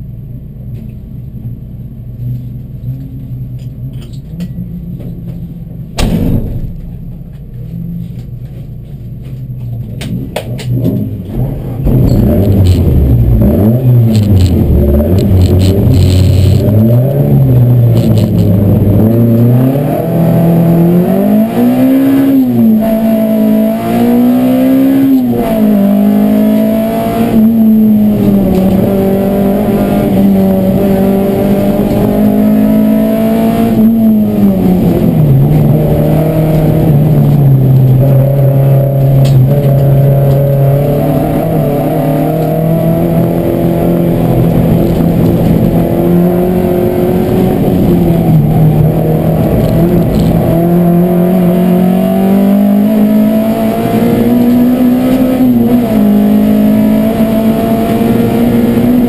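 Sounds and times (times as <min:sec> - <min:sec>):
race car engine revving: 0:10.0 - 0:59.0.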